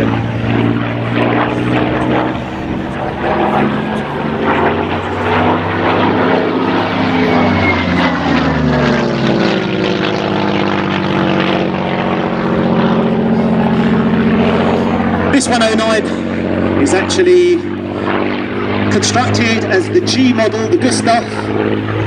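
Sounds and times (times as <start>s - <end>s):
propeller plane flying past: 0.0s - 22.0s.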